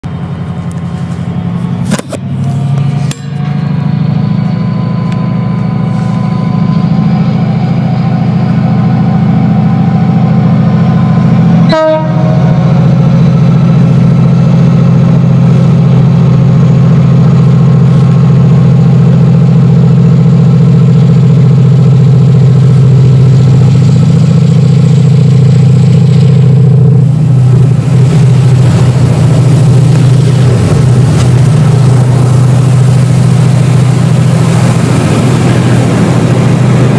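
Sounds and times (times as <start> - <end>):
diesel locomotive engine droning: 0.0 - 36.9.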